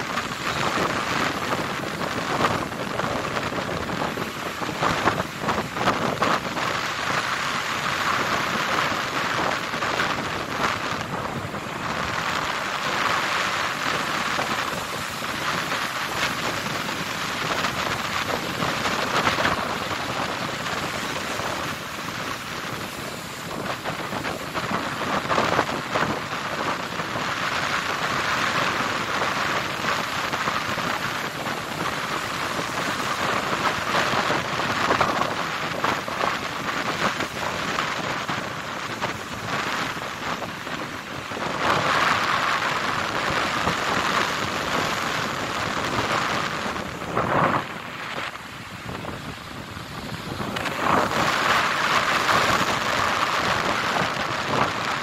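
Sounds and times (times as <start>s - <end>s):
surf breaking on rocky shore: 0.0s - 55.0s.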